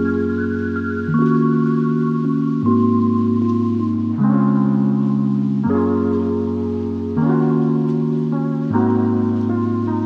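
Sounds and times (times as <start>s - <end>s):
sustained instrumental chords: 0.0s - 10.0s.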